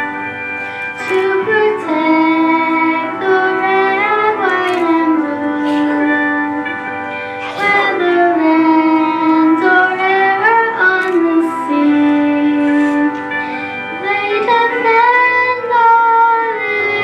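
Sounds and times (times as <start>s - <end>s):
instrumental accompaniment: 0.0s - 17.0s
girl singing into a microphone: 1.0s - 6.8s, 7.4s - 17.0s.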